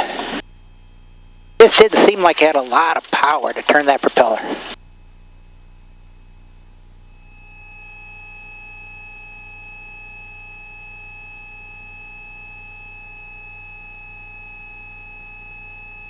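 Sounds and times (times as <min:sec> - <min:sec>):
low steady hum: 0:00.0 - 0:16.0
high-pitched electrical whine: 0:00.2 - 0:16.0.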